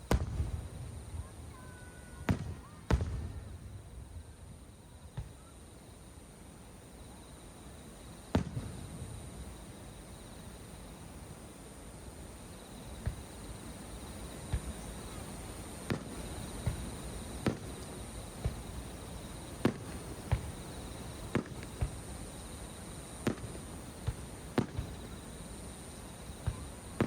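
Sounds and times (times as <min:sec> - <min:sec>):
distant fireworks bangs: 0:00.0 - 0:06.0, 0:07.9 - 0:10.5, 0:12.7 - 0:27.0.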